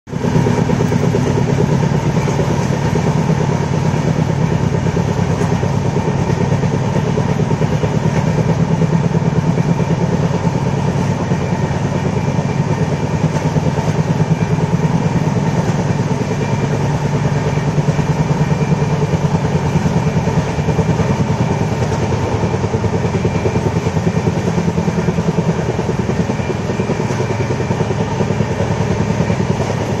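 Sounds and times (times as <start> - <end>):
train wheels rumbling on track: 0.1 - 30.0.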